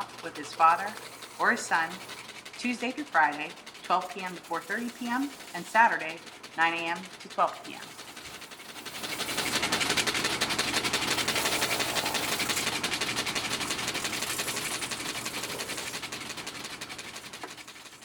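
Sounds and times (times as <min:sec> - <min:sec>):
stitching machine clattering: 0:00.0 - 0:18.0.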